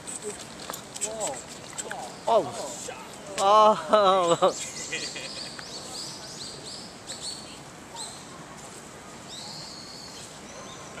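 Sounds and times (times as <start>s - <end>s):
small birds chirping: 0.0s - 3.5s, 4.4s - 8.4s, 9.2s - 11.0s.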